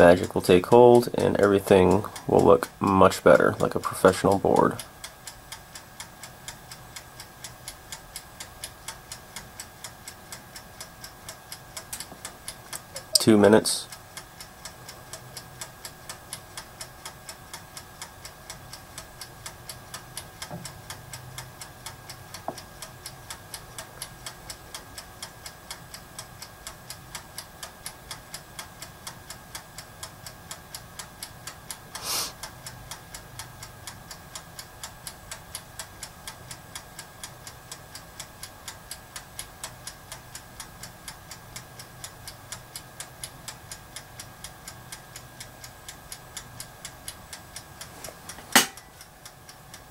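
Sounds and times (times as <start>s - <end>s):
low steady hum: 0.0s - 49.9s
mechanical timer ticking: 0.0s - 49.9s.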